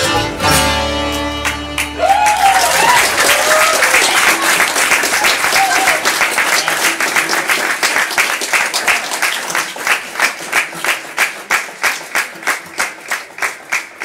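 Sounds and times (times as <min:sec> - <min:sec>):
rhythmic clapping in unison: 0:01.2 - 0:14.0
audience applause: 0:01.4 - 0:14.0.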